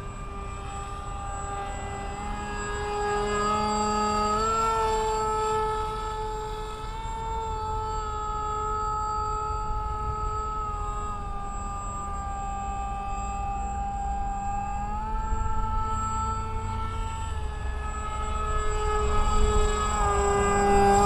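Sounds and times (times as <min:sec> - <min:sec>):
electric motor and propeller whine: 0:00.0 - 0:21.0.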